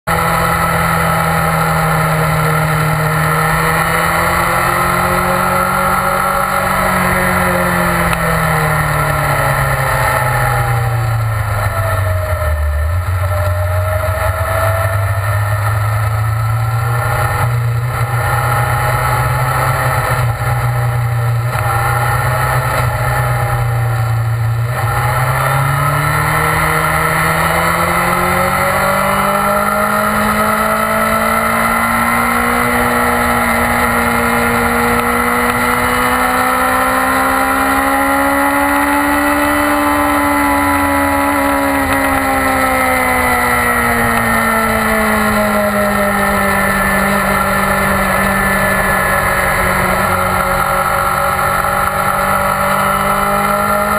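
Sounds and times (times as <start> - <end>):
sport bike engine: 0.0 - 53.9.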